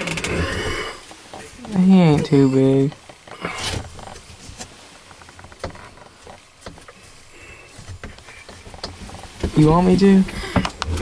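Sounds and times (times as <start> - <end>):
faint rustling of gear: 0.0 - 11.0.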